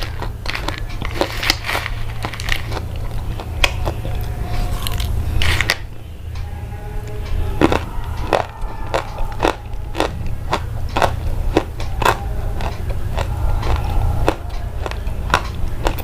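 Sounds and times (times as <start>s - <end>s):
irregular crunching and crackling: 0.0s - 16.0s
steady low hum: 0.0s - 16.0s.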